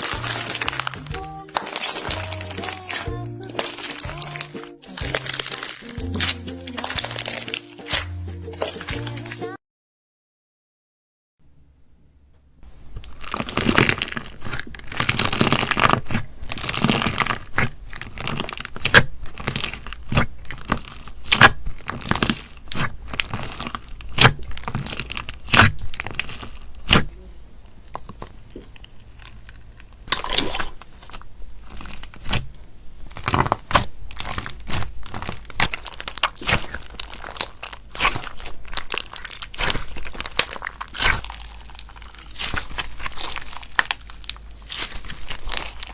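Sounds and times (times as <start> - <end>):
slime crackling and clicking: 0.0 - 9.6, 13.0 - 27.1, 27.7 - 45.9.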